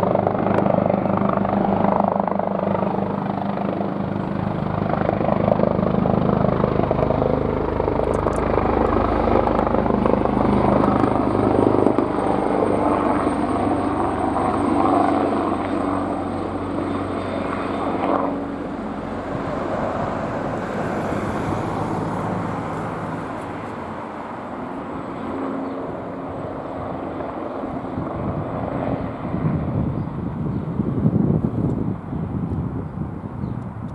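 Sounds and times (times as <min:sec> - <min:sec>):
helicopter hovering low: 0:00.0 - 0:33.9.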